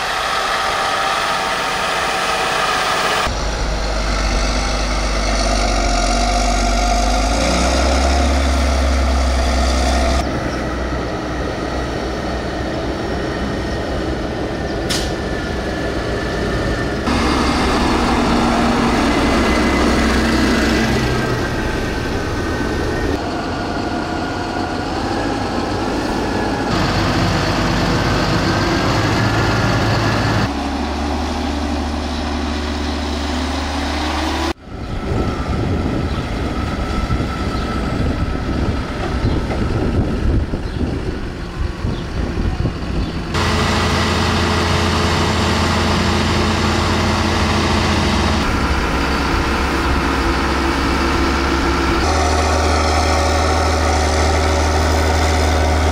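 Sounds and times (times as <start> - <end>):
tractor diesel engine revving: 0.0 - 55.9.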